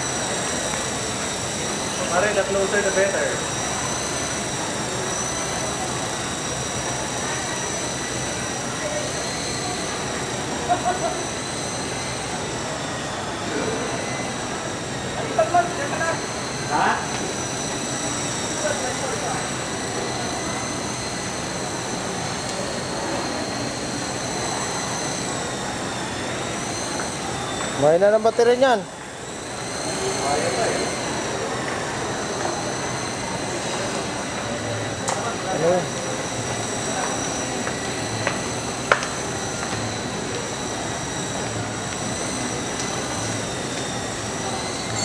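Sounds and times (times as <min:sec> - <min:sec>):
toy helicopter rotors whining: 0:00.0 - 0:45.0.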